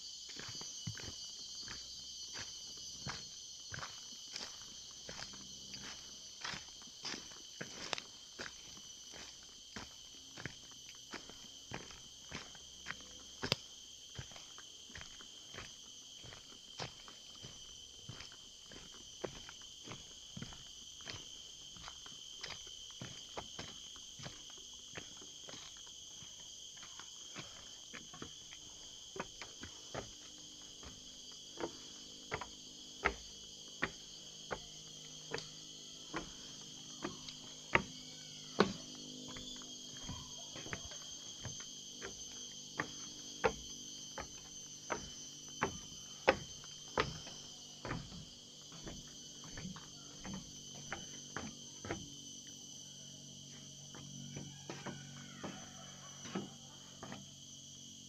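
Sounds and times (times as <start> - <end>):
high-pitched insect chorus: 0.0 - 58.0
footsteps on forest floor: 0.2 - 52.0.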